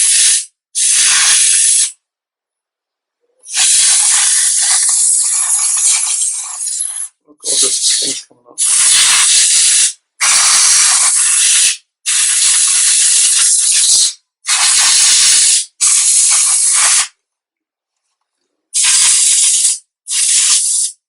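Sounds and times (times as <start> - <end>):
compressed air duster spraying: 0.0 - 2.0, 3.5 - 17.1, 18.8 - 21.0.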